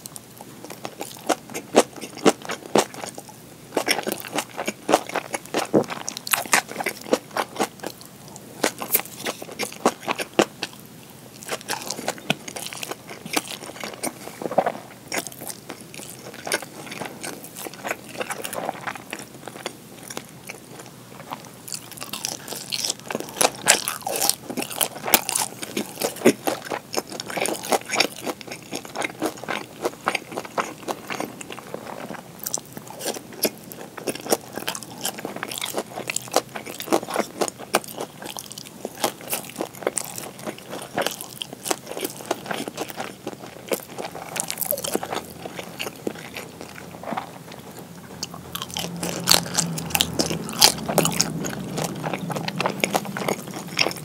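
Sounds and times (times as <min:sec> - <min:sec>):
person chewing crisp food: 0:00.0 - 0:54.0.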